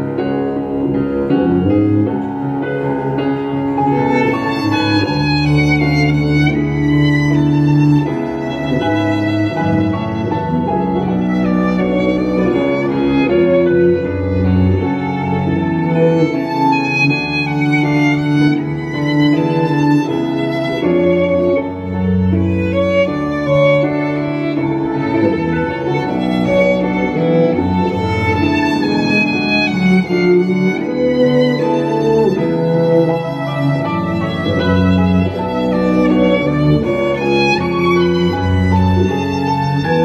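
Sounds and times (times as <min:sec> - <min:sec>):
bowed double bass notes: 0:00.0 - 0:40.0
bowed violin melody: 0:00.0 - 0:40.0.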